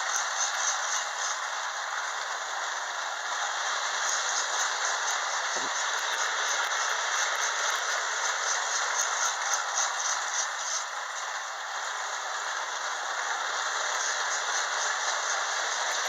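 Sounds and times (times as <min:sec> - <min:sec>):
toy train running on track: 0:00.0 - 0:16.0.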